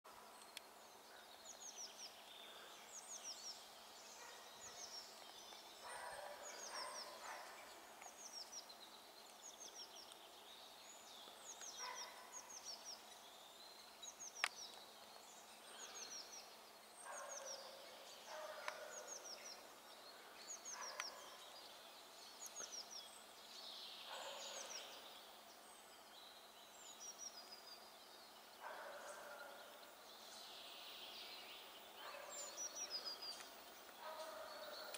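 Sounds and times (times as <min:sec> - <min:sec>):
faint birdsong: 0:00.1 - 0:34.9.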